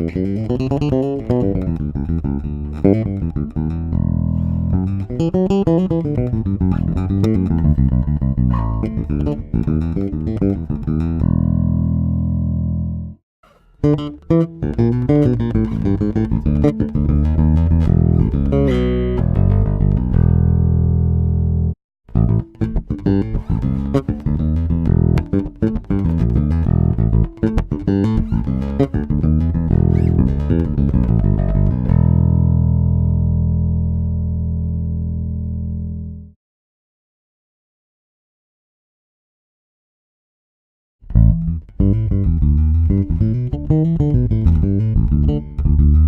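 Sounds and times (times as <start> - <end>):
electric bass plucked notes: 0.0 - 36.4, 41.0 - 46.0.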